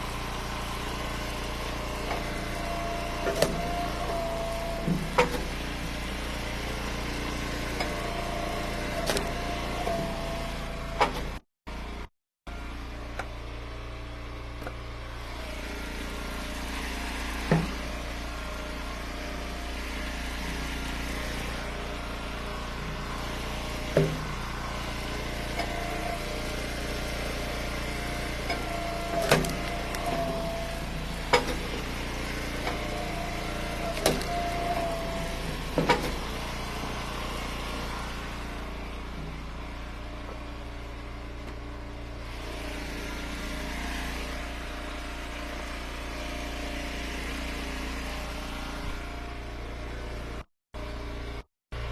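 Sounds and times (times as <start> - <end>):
wood splitter engine running: 0.0 - 51.9.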